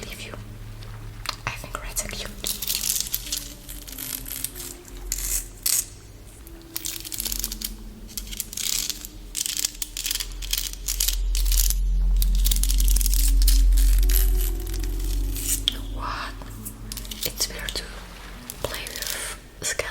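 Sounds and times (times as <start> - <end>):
low underwater rumble: 0.0 - 19.7
crinkly rustling: 0.0 - 19.9
soft steady tones: 0.0 - 19.9.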